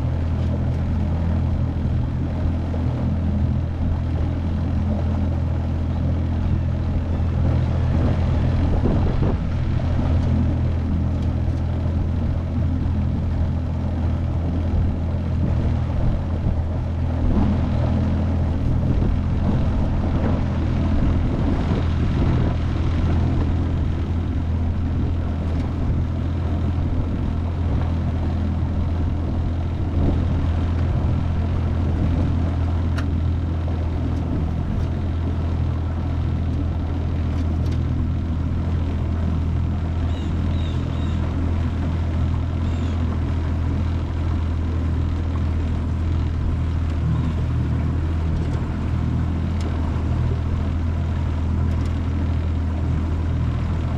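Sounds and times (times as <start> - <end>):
outboard motor running: 0.0 - 53.9.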